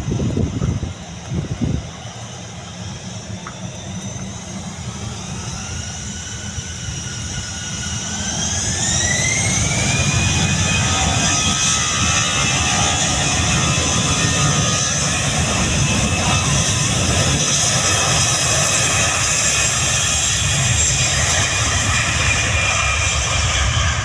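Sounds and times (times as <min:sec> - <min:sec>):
jet engines spooling up: 0:00.0 - 0:24.0.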